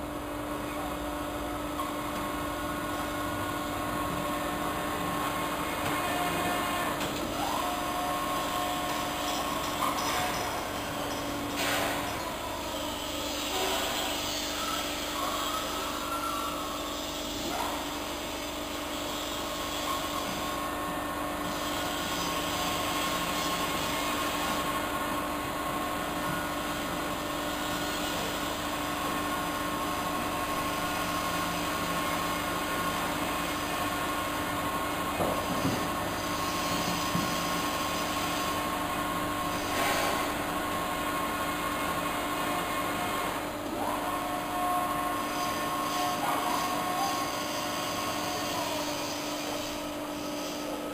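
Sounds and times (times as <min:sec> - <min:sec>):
shredder mechanical hum and whine: 0:00.0 - 0:50.9.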